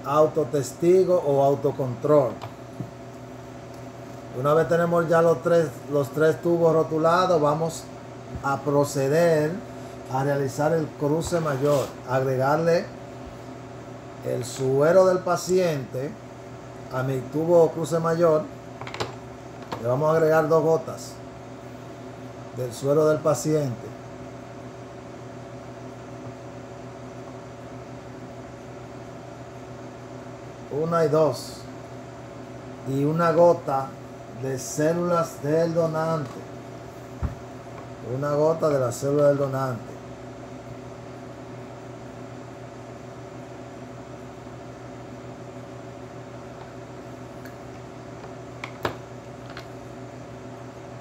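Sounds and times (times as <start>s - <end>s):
laboratory equipment hum: 0.0s - 51.0s.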